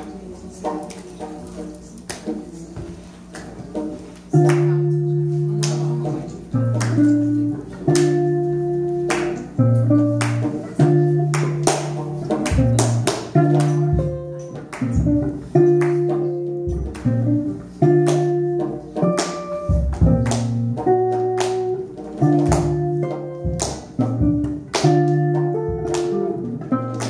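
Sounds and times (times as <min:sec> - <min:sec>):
experimental jazz group playing: 0:00.0 - 0:27.0
held low guitar notes: 0:03.6 - 0:27.0.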